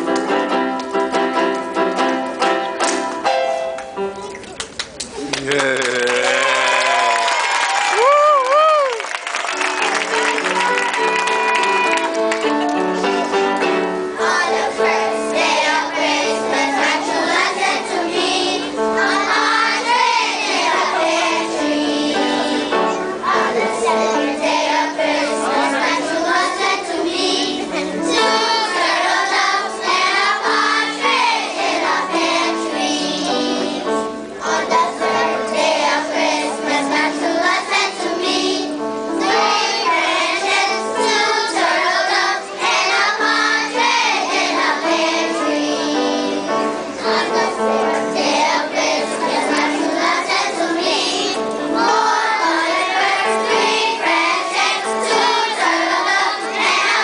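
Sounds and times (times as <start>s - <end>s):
children's choir singing: 9.5s - 57.0s.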